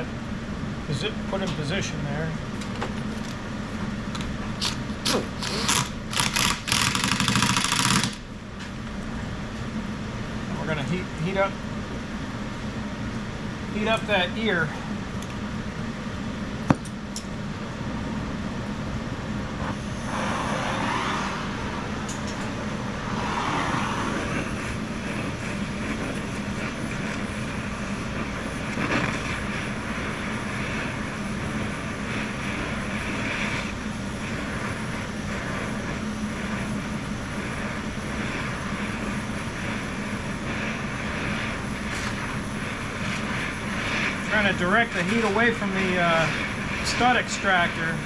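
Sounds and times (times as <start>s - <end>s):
cutting torch flame hissing: 0.0s - 48.0s.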